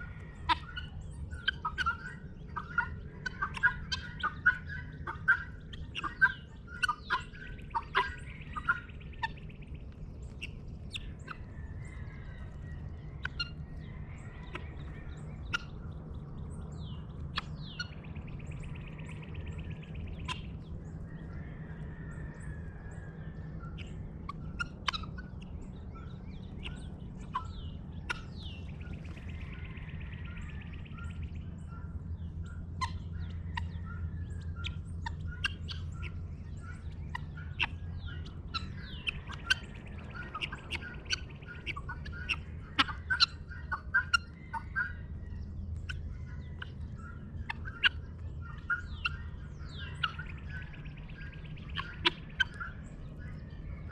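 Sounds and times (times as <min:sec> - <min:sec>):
birds chirping and whistling: 0:00.0 - 0:53.9
steady low rumble: 0:00.0 - 0:53.9.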